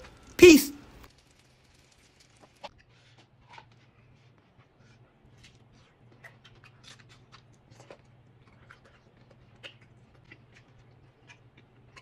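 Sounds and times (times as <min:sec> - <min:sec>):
crunching and chewing crispy taco: 0:01.1 - 0:12.0.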